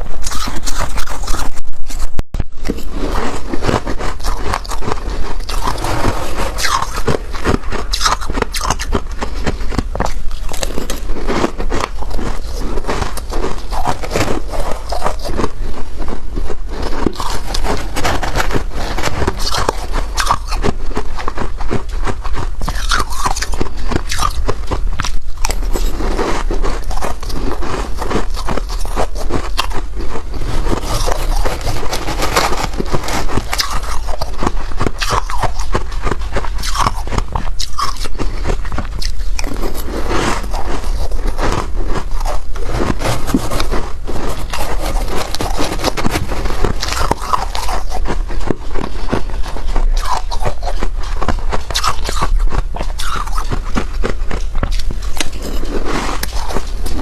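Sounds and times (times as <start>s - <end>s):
crunching and chewing frost: 0.0s - 57.0s
scraping ice: 2.7s - 16.1s, 16.7s - 21.5s, 25.0s - 57.0s.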